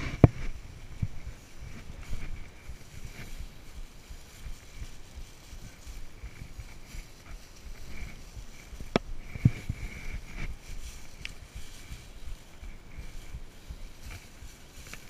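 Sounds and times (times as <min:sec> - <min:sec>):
dry grass netting rustling: 0:00.0 - 0:15.0.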